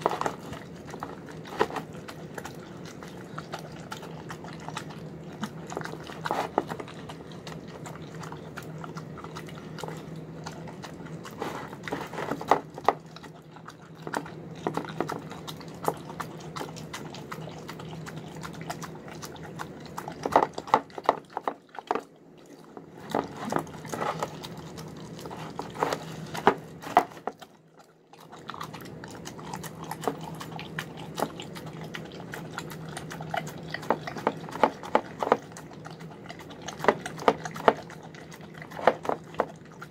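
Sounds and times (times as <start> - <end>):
clicks of biting and gulping: 0.0 - 39.9
dog chewing wet food: 0.0 - 39.9.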